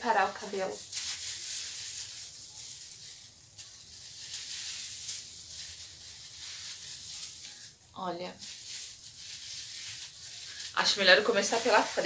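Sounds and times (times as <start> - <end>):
plastic gloves rustling against hair: 0.0 - 12.0.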